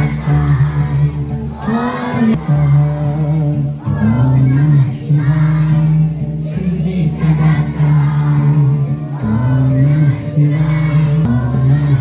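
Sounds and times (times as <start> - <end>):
group singing a prayer: 0.0 - 12.0.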